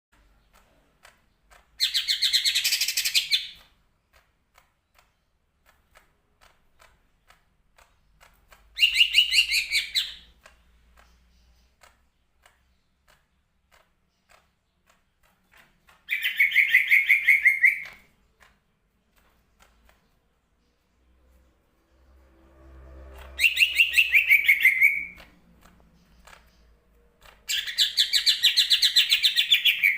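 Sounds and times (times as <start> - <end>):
bird singing rapid notes: 1.2 - 3.8, 7.0 - 18.5, 19.7 - 29.9.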